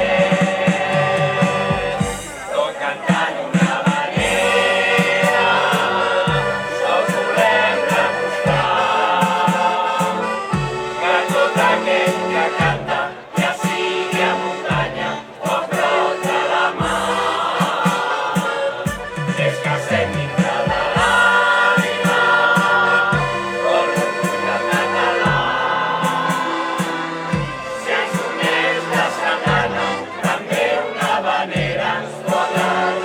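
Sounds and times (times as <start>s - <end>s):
thumping beat: 0.0s - 33.0s
voices singing together: 0.0s - 33.0s.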